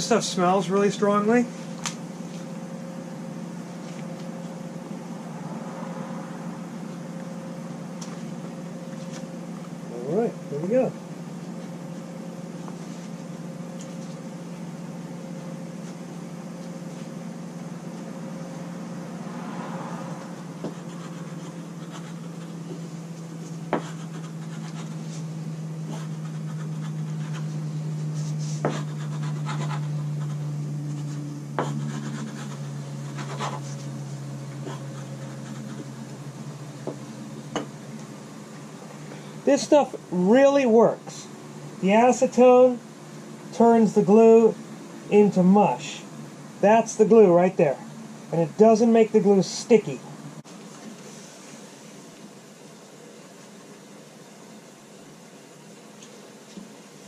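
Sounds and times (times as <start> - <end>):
low hum: 0.0 - 48.8.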